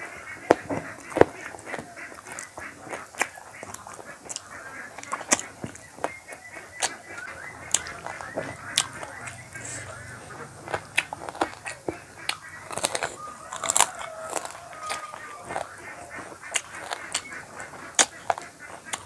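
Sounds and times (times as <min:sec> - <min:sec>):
mouth clicks: 0:00.0 - 0:19.0
wet chewing and lip-smacking: 0:00.0 - 0:19.0.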